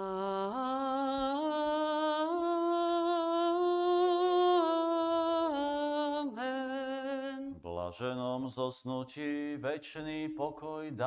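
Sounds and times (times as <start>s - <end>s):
person singing a liturgical chant: 0.0s - 11.0s.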